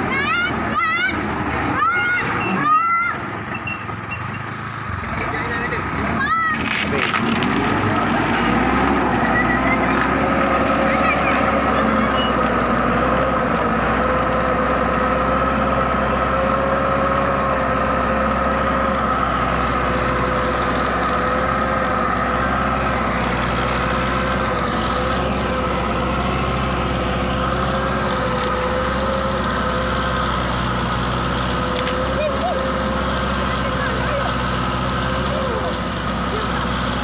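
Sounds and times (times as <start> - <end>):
tractor engine running under load: 0.0 - 37.0.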